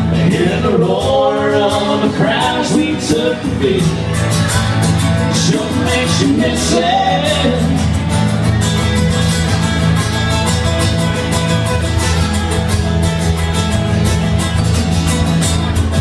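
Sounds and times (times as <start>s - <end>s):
acoustic guitars strumming: 0.0s - 16.0s.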